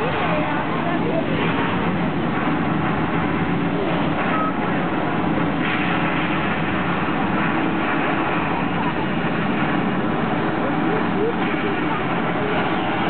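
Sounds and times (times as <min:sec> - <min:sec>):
gas flames burning: 0:00.0 - 0:13.0
waterfall pouring: 0:00.0 - 0:13.0.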